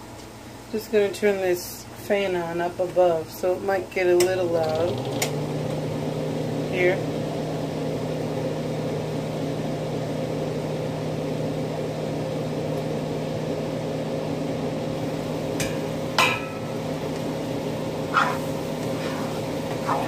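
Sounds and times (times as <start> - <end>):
range hood fan whirring: 0.0 - 20.0.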